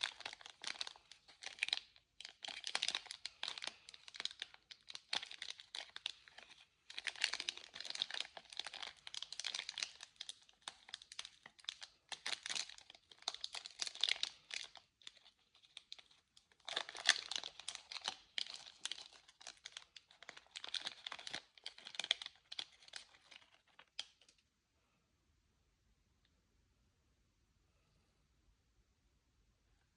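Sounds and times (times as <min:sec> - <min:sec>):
candy wrapper crinkling and tearing: 0:00.0 - 0:24.4.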